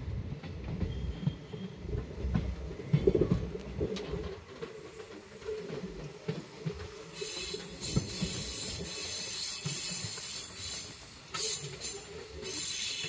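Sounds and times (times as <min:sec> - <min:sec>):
train wheels rumbling on rails: 0:00.0 - 0:13.0
steady rushing hiss: 0:01.8 - 0:13.0.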